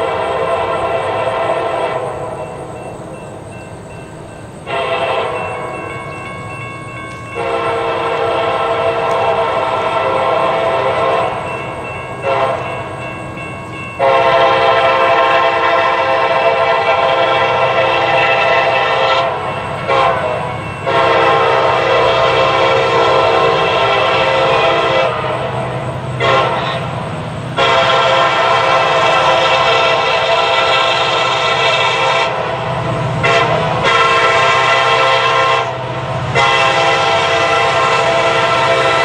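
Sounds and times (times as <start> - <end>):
locomotive air horn blasts: 0.0 - 2.4, 4.6 - 5.9, 7.3 - 11.5, 12.2 - 12.9, 14.0 - 39.0.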